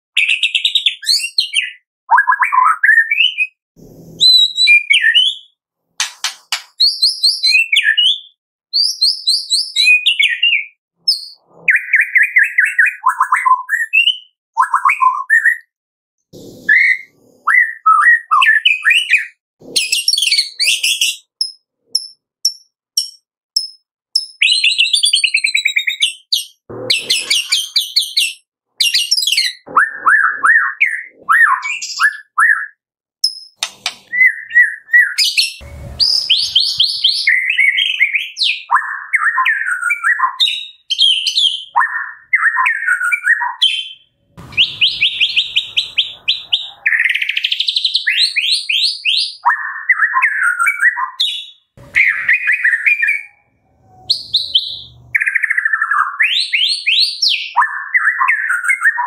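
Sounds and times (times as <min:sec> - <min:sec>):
bird singing whistled phrases: 0:00.2 - 0:03.6, 0:04.2 - 0:05.6, 0:06.8 - 0:15.7, 0:16.7 - 0:21.3, 0:23.0 - 0:26.6, 0:27.2 - 0:59.0.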